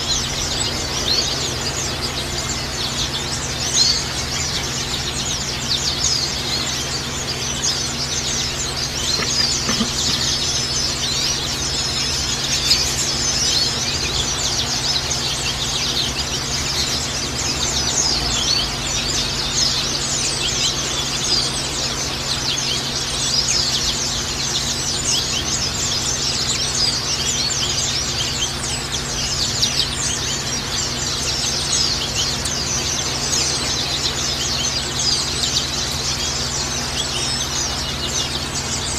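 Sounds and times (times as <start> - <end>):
birds twittering song: 0.0 - 38.9
steady low hum: 0.0 - 38.9.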